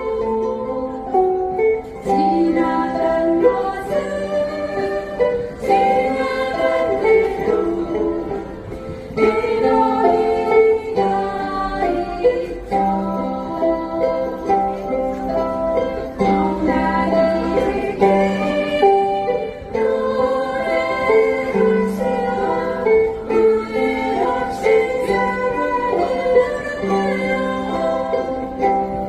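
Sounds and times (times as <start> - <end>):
ukulele ensemble strumming: 0.0 - 29.0.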